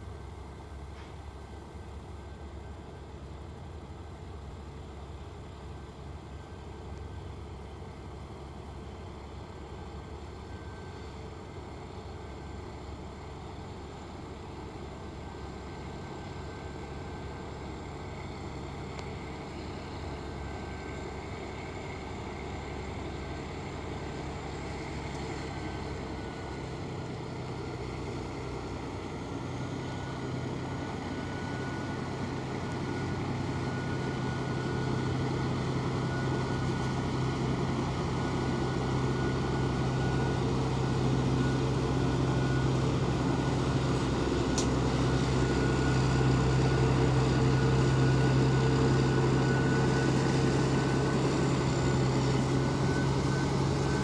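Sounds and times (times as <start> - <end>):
diesel locomotive running: 0.0 - 54.0.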